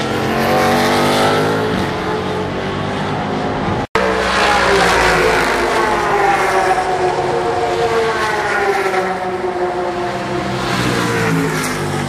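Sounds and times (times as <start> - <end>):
race cars passing at speed: 0.0 - 12.0.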